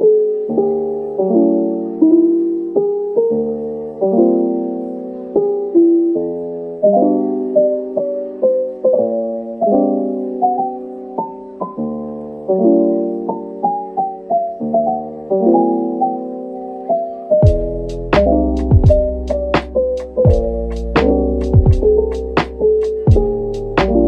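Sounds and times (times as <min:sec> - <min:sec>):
piano playing slow chords: 0:00.0 - 0:24.0.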